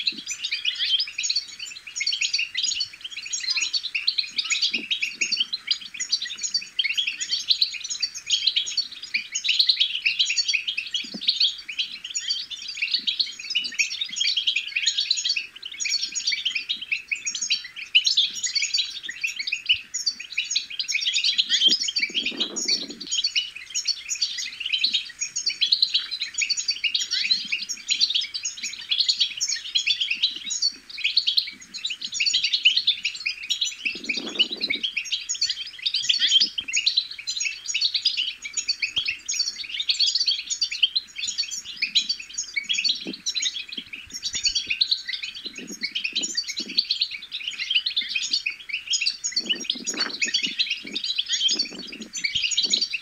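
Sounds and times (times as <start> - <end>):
birds twittering and trilling: 0.0 - 53.0.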